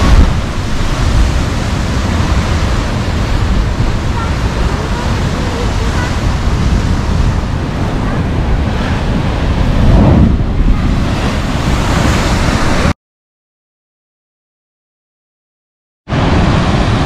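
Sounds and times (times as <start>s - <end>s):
surf rushing through rocky chasm: 0.0s - 13.0s, 16.1s - 17.0s.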